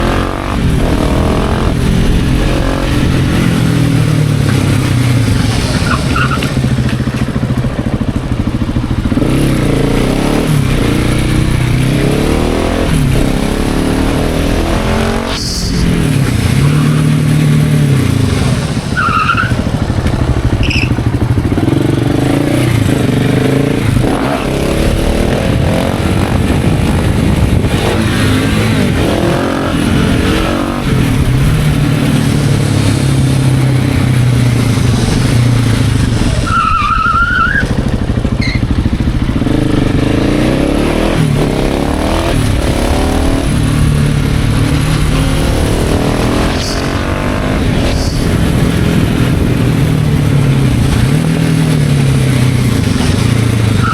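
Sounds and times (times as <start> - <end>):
motorbike engine revving: 0.0 - 53.9.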